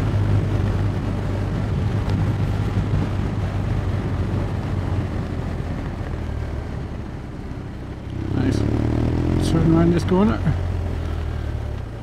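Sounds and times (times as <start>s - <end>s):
motorcycle engine running: 0.0s - 12.0s
wind and road rush: 0.0s - 12.0s.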